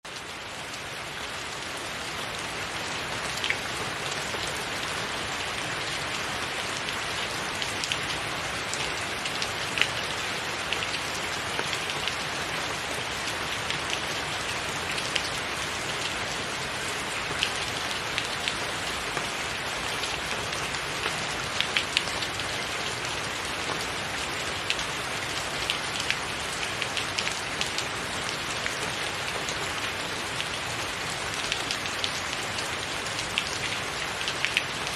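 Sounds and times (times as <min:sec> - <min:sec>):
rain falling: 0:00.1 - 0:34.9.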